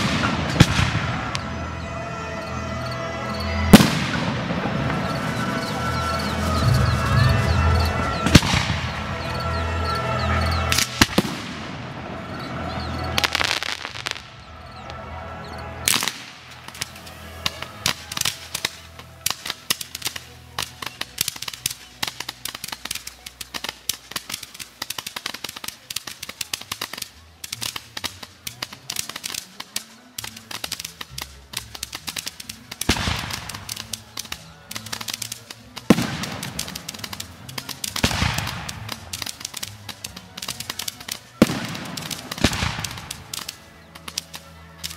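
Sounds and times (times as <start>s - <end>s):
fireworks bang: 0.0s - 1.6s, 3.6s - 15.0s, 15.9s - 44.9s
fireworks crackling pops: 0.0s - 1.9s, 2.5s - 44.9s.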